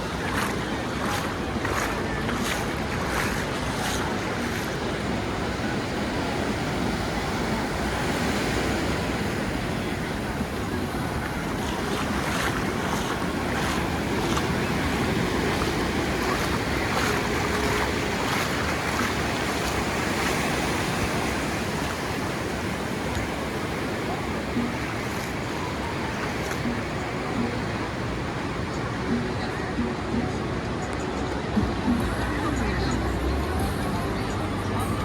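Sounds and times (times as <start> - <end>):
sea waves breaking on beach: 0.0 - 29.7.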